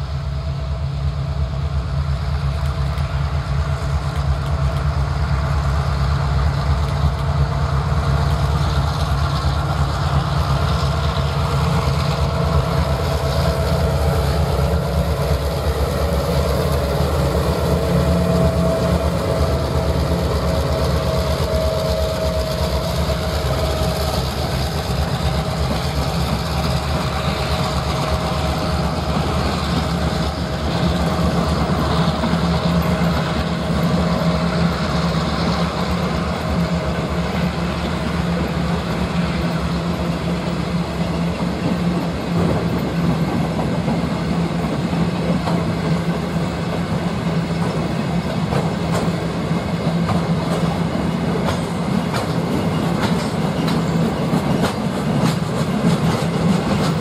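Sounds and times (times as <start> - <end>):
diesel locomotive engine drone: 0.0 - 57.0
rail noise: 0.0 - 57.0.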